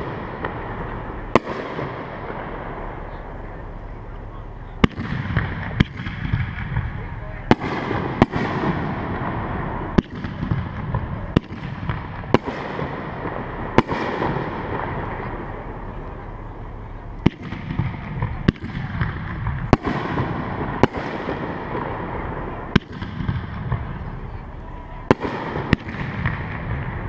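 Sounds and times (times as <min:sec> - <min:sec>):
low noisy rumble: 0:00.0 - 0:27.0.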